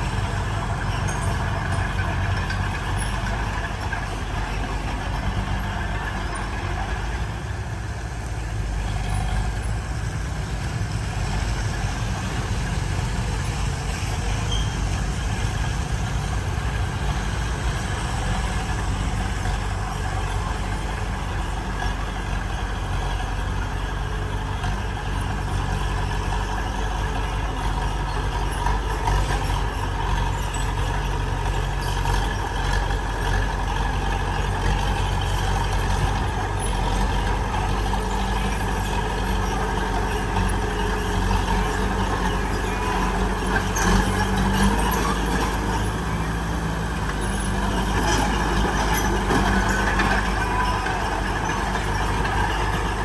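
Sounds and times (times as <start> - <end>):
diesel machinery engine: 0.0 - 53.0.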